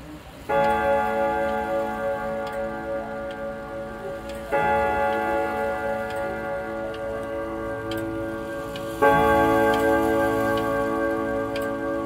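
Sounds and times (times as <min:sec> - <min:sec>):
clock chime rod ringing: 0:00.5 - 0:12.0
clock ticking: 0:00.5 - 0:12.0.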